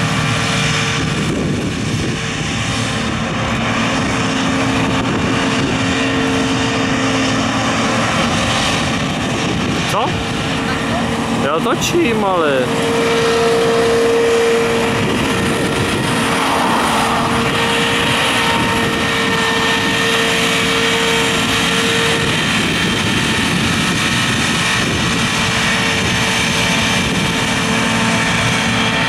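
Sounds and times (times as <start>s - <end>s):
combine harvester running: 0.0s - 29.0s
steady machine whine: 0.0s - 29.0s.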